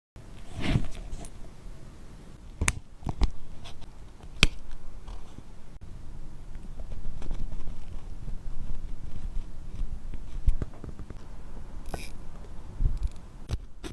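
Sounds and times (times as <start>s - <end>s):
low background rumble: 0.2s - 13.9s.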